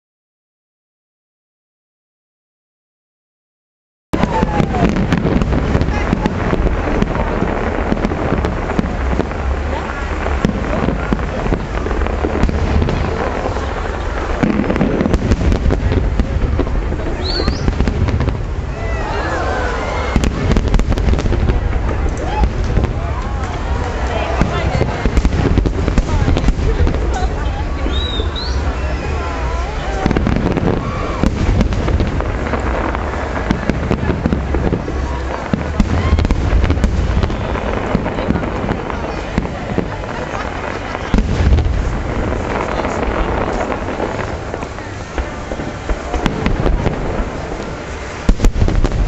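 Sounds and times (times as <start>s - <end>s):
fireworks booms: 4.2s - 49.0s
fireworks crackles and pops: 4.2s - 49.0s.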